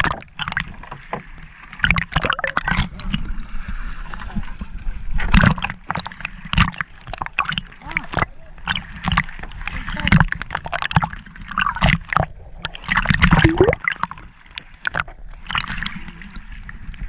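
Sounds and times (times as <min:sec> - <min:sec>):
underwater bubbling: 0:00.0 - 0:17.0
water sloshing and splashing: 0:00.0 - 0:17.0.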